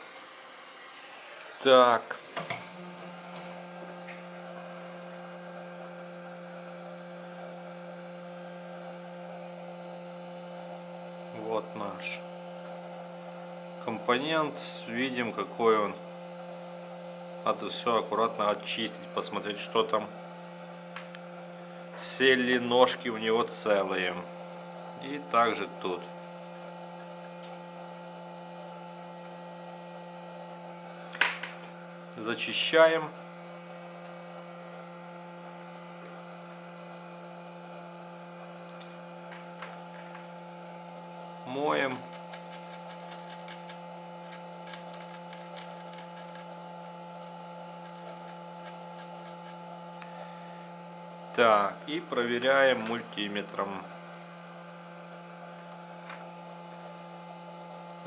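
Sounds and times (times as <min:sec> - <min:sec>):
electric hum: 0:00.0 - 0:58.0.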